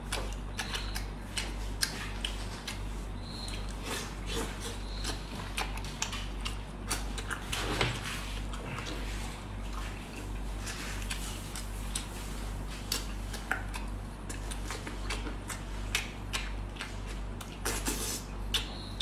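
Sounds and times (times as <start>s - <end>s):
chewing: 0.0s - 19.0s
steady low hum: 0.0s - 19.0s.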